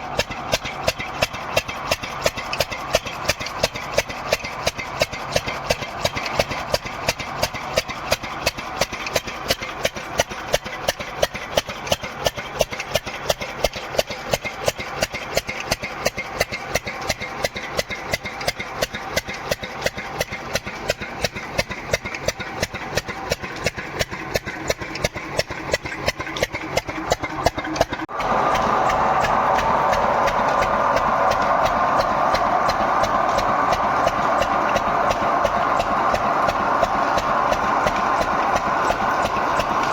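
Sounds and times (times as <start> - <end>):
engine running with sharp knock: 0.0 - 39.9.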